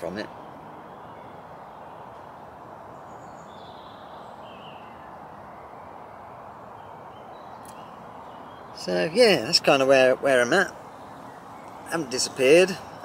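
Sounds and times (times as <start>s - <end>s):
faint bird calls: 0.0s - 13.0s
outdoor background noise: 0.0s - 13.0s.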